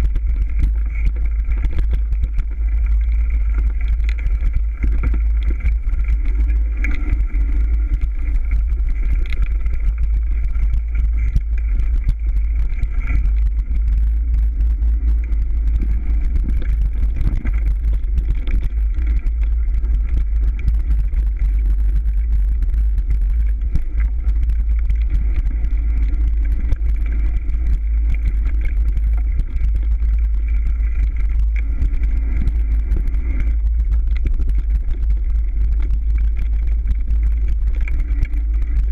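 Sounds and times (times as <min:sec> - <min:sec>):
bike rolling low rumble: 0:00.0 - 0:38.9.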